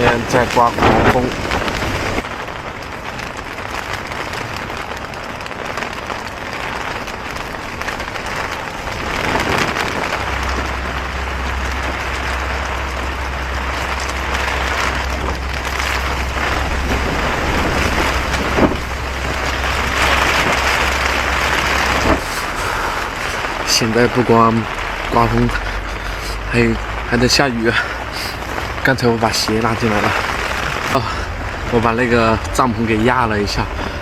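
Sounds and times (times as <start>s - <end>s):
rain on tent fabric: 0.0s - 34.0s
strong wind gusting against tent: 0.0s - 34.0s
wind rumble on microphone: 0.0s - 34.0s.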